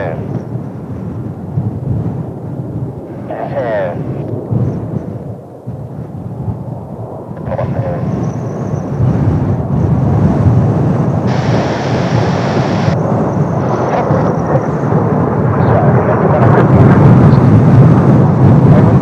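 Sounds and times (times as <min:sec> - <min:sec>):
jet aircraft rumble: 0:00.0 - 0:19.0.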